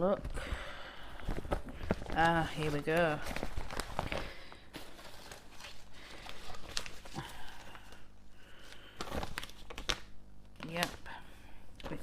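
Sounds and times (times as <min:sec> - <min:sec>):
packaging rustling and crinkling: 0:00.1 - 0:11.1.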